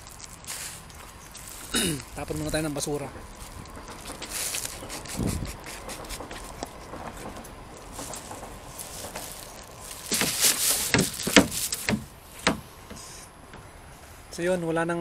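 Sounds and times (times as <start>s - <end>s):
plastic bag rustling: 0.0s - 12.4s.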